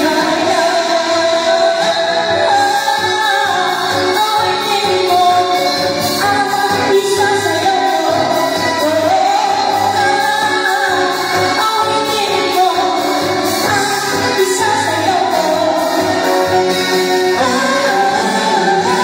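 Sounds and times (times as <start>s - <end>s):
live stage music: 0.0s - 19.0s
person singing: 0.0s - 19.0s.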